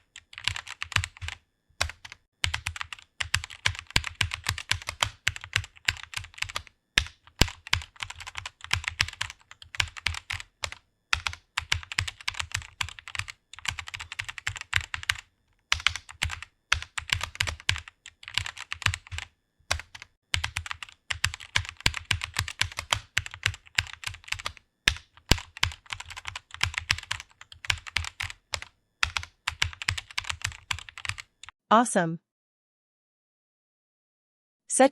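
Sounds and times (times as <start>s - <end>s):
typing on computer keyboard: 0.0s - 31.6s.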